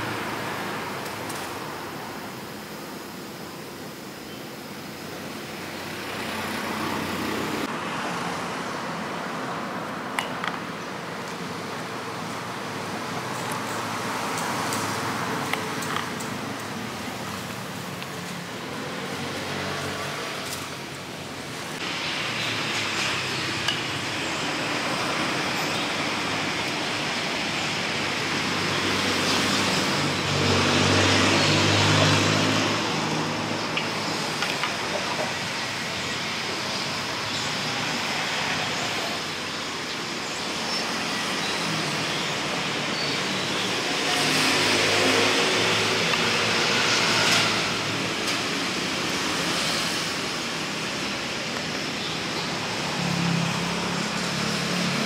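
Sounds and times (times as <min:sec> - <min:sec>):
passing cars and motorbikes: 0:00.0 - 0:55.0.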